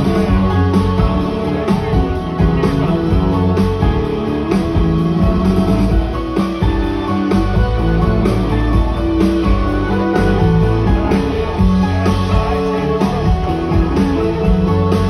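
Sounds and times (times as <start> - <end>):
electric guitar: 0.0 - 15.0
live band playing instrumental: 0.0 - 15.0.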